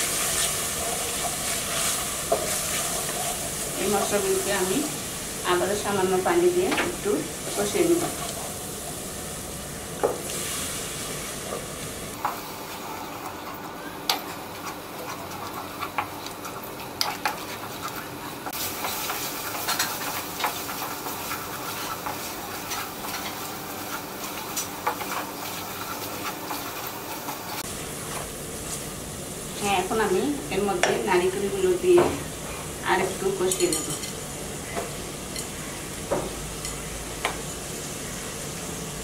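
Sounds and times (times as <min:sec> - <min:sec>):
spice paste sizzling in oil: 0:00.0 - 0:39.0.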